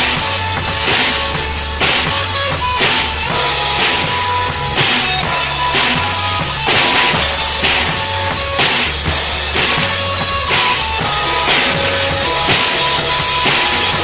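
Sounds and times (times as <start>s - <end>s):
drum kit beat: 0.0s - 14.0s
low bass line: 0.0s - 14.0s.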